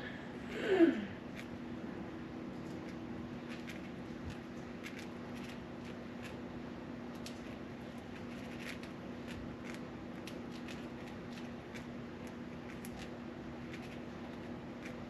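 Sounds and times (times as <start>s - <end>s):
steady low hum: 0.0s - 15.0s
bird clicks and scratches: 1.3s - 1.6s, 2.5s - 6.4s, 7.1s - 15.0s.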